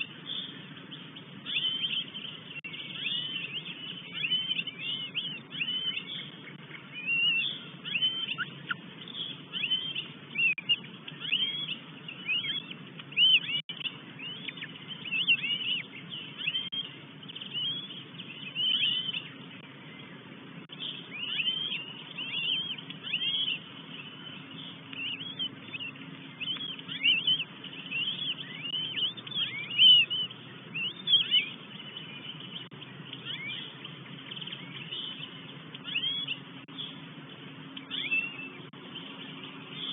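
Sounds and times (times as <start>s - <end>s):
birds calling: 0.0s - 39.9s
steady low hum: 0.0s - 39.9s.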